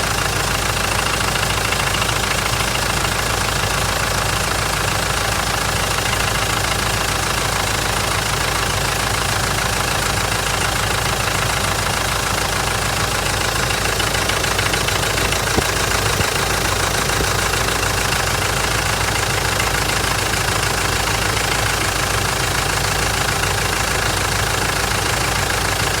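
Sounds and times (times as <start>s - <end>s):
diesel engine idling with knock: 0.0s - 26.0s.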